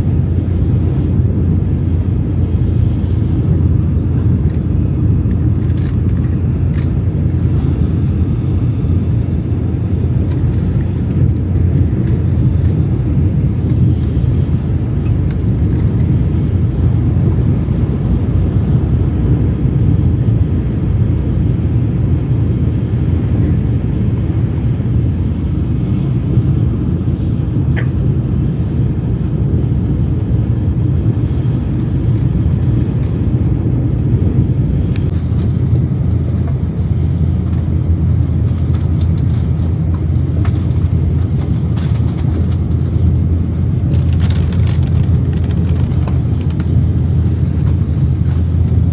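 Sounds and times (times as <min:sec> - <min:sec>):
train rumbling inside carriage: 0:00.0 - 0:48.9.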